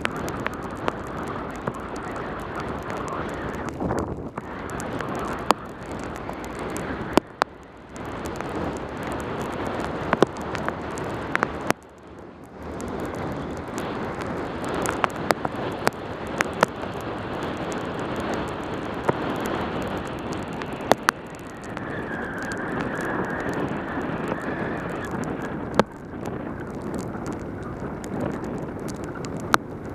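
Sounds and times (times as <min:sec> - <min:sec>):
tyres hissing on wet road: 0:00.0 - 0:29.9
wind rushing over microphone: 0:00.0 - 0:29.9.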